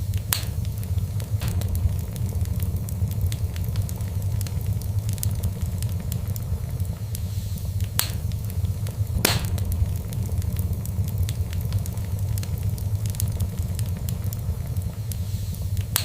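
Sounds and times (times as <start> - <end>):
fire crackles: 0.0 - 16.0
loud fire pops: 0.0 - 16.0
wood fire rumble: 0.0 - 16.0.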